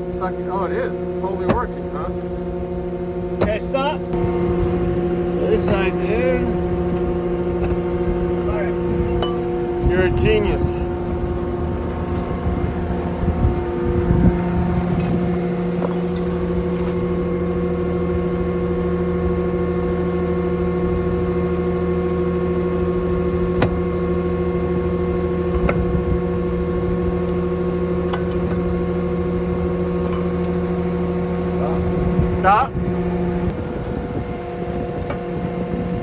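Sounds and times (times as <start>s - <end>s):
hydraulic whine: 0.0s - 36.0s
skid steer engine running: 0.0s - 36.0s.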